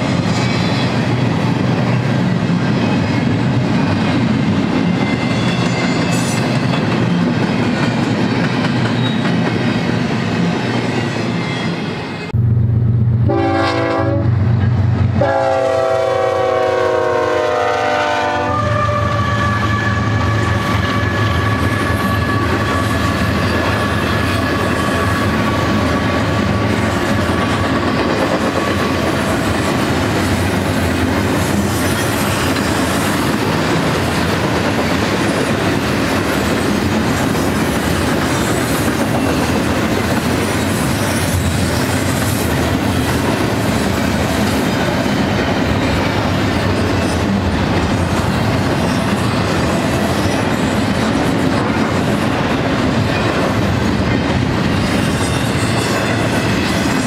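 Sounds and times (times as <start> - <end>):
train wheels rolling on rails: 0.0 - 13.4, 14.3 - 57.0.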